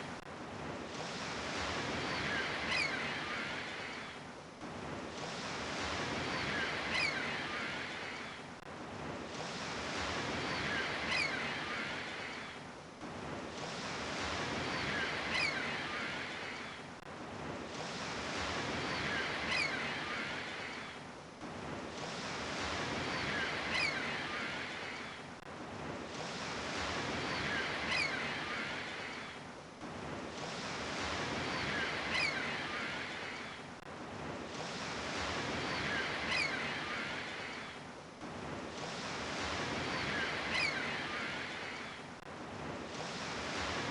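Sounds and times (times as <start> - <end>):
sea waves washing onto shore: 0.0 - 43.9.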